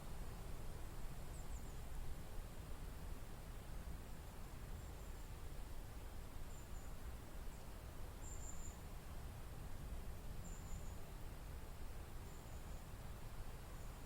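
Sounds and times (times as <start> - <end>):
wind in a forest: 0.0 - 14.0.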